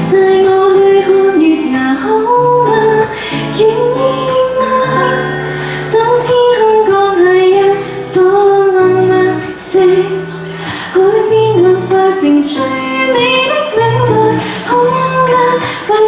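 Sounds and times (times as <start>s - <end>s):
woman singing a slow ballad: 0.0s - 16.0s.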